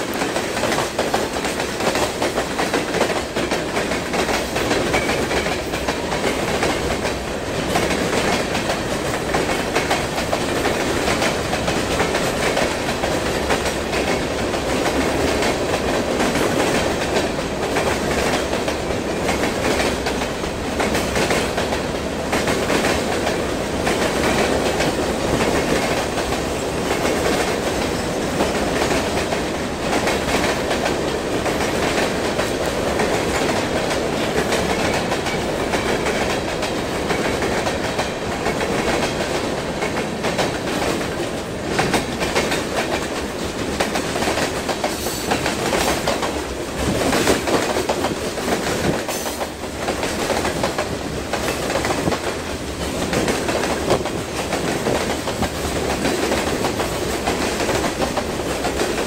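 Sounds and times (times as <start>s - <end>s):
wheels clicking over rail joints: 0.0s - 59.0s.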